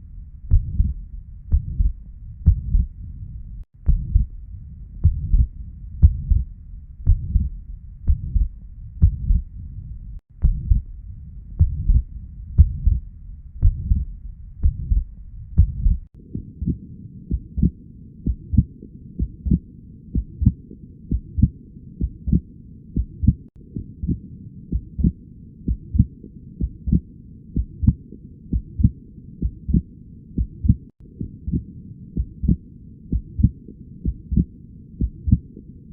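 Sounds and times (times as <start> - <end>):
heartbeat through stethoscope: 0.0 - 35.7.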